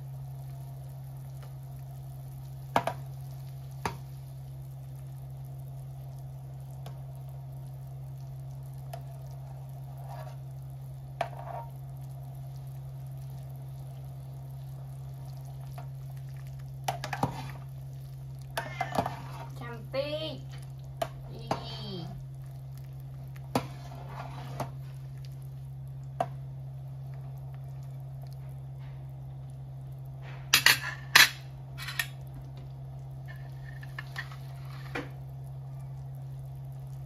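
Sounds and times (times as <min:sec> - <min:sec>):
soup simmering: 0:00.0 - 0:37.0.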